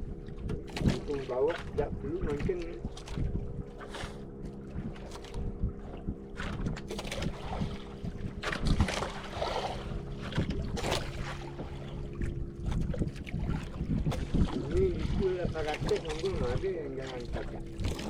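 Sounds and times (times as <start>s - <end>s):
boat engine running: 0.0s - 18.0s
water noise: 0.0s - 18.0s
wind buffeting: 0.0s - 18.0s.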